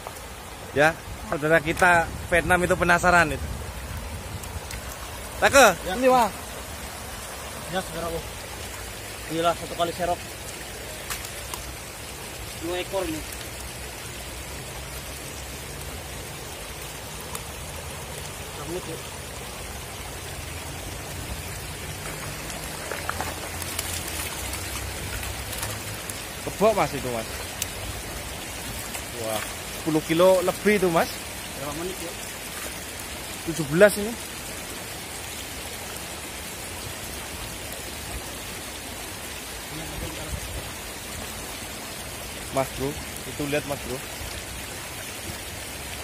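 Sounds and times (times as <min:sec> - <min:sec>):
river water over stones: 0:00.0 - 0:46.0.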